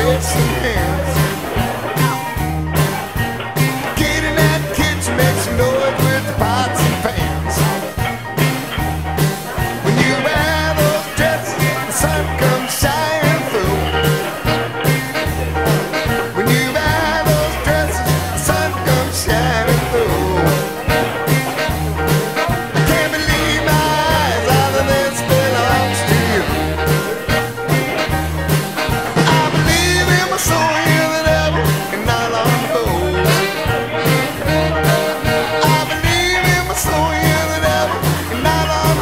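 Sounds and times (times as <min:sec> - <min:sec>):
person singing: 0:00.0 - 0:39.0
steady beat: 0:00.0 - 0:39.0
walking bass line: 0:00.0 - 0:39.0.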